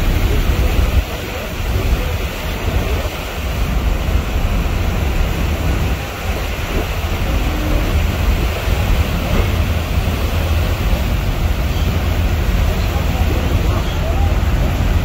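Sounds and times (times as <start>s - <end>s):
churning propeller wake: 0.0s - 15.0s
ferry engine rumble: 0.0s - 15.0s.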